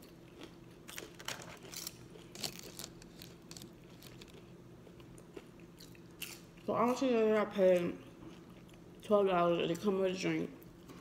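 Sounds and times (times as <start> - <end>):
soft chewing: 0.0 - 9.2
low room hum: 0.0 - 11.0.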